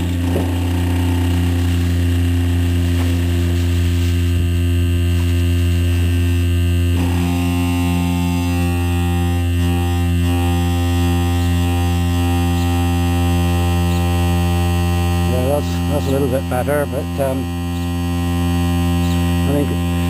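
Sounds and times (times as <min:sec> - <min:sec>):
generator low hum: 0:00.0 - 0:20.0.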